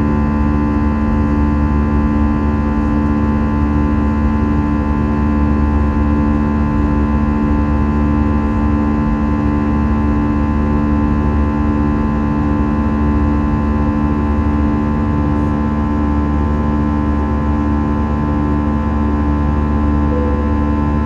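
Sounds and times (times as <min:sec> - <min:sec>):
jet engines rumbling in cabin: 0:00.1 - 0:21.0.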